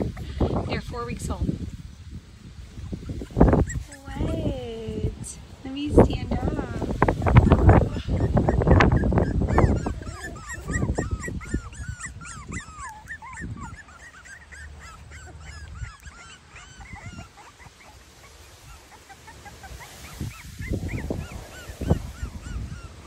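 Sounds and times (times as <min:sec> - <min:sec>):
puppies whimpering: 0:02.8 - 0:05.1, 0:06.0 - 0:23.0.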